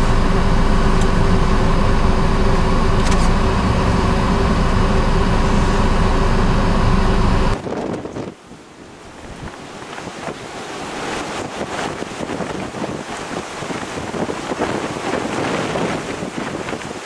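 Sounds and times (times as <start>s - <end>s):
surf crashing: 0.0s - 17.0s
wind buffeting microphone: 0.0s - 17.0s.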